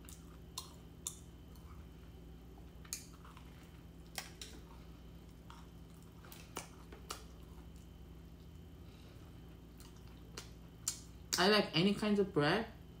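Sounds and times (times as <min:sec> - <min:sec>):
person chewing: 0:00.0 - 0:11.4
low steady hum: 0:00.0 - 0:13.0.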